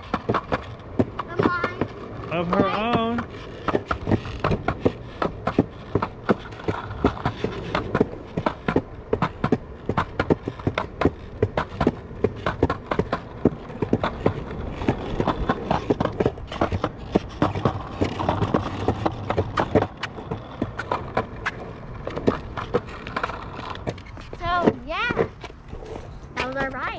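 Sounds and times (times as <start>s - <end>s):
skateboard rolling on concrete: 0.0s - 26.9s
skateboard wheels clacking: 0.0s - 26.9s.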